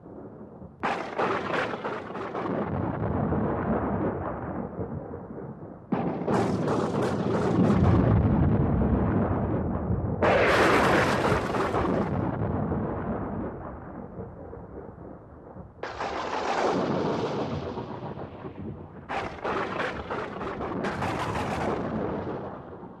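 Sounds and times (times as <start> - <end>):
thunder rumbling and clapping: 0.0 - 23.0.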